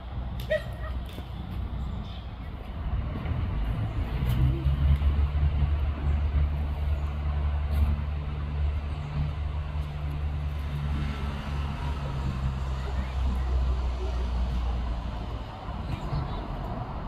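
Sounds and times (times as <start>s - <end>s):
large engine rumbling: 0.0s - 17.0s.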